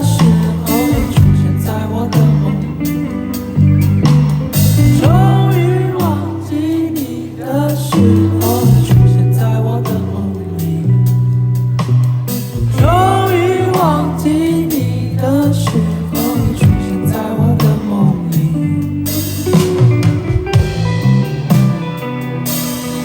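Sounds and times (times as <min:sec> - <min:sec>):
lead guitar line bending: 0:00.0 - 0:23.0
live rock band playing: 0:00.0 - 0:23.0.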